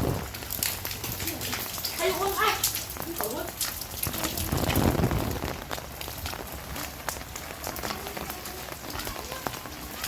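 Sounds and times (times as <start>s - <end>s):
heavy rain hissing: 0.0s - 10.0s
raindrops ticking close by: 0.0s - 10.0s.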